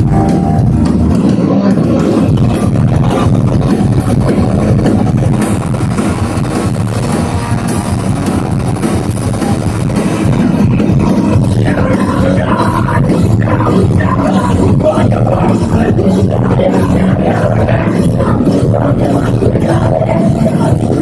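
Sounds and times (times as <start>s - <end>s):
drum kit: 0.0s - 21.0s
rock band playing live: 0.0s - 21.0s.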